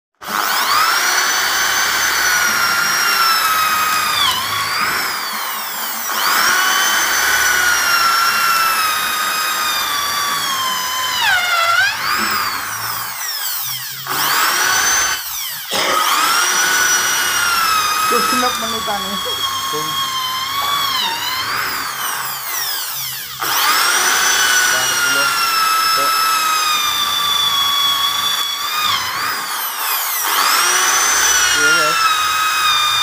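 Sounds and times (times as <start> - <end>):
electric drill boring into wood: 0.2 - 33.0.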